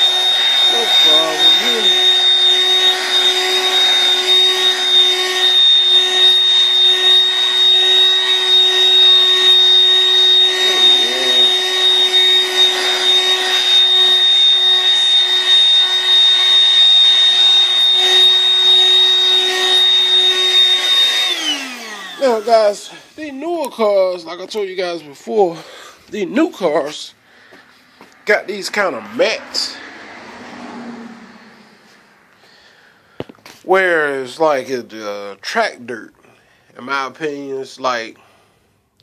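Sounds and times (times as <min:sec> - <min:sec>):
portable vacuum cleaner whine: 0:00.0 - 0:33.6.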